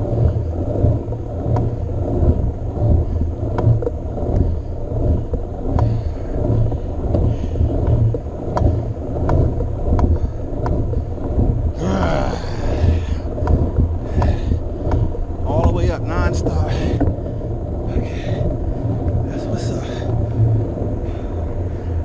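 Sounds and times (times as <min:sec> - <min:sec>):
bike clicks and rattles: 0:00.0 - 0:22.0
bike tyre and wind rumble: 0:00.0 - 0:22.0.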